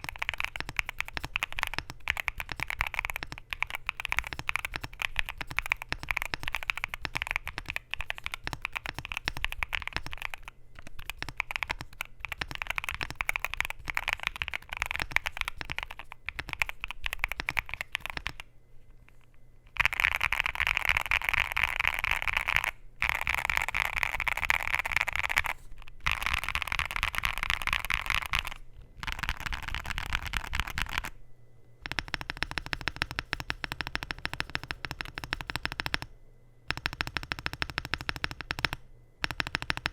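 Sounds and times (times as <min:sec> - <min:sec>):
mechanical keyboard typing: 0:00.0 - 0:18.5, 0:19.7 - 0:31.2, 0:31.8 - 0:36.1, 0:36.7 - 0:39.9.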